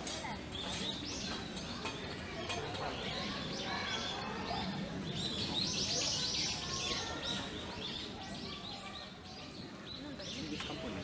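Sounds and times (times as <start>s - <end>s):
faint chatter of people: 0.0s - 11.0s
small birds chirping: 0.0s - 11.0s.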